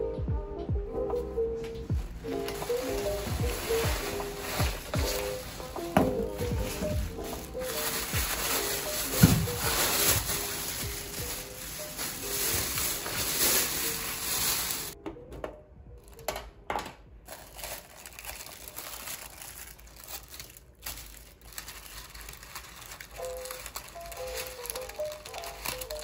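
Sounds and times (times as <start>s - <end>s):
quiet background music: 0.0s - 26.0s
packaging crinkling: 2.1s - 15.0s, 17.3s - 26.0s.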